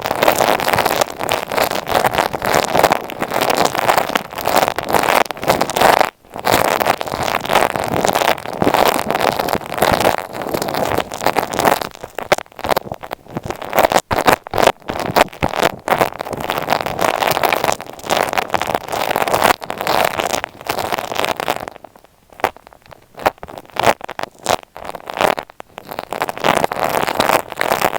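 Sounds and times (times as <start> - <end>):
scratching on microphone: 0.0 - 27.9.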